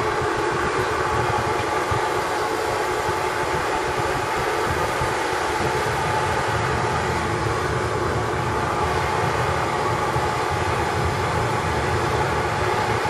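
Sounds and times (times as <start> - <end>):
forge burner rushing: 0.0 - 13.0.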